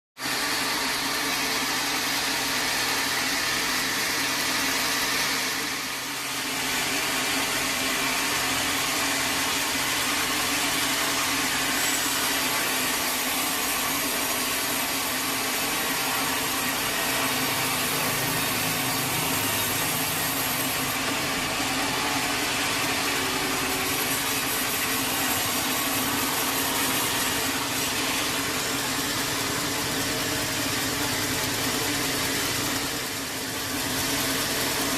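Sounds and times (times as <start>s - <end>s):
sawmill saw droning: 0.2s - 34.9s.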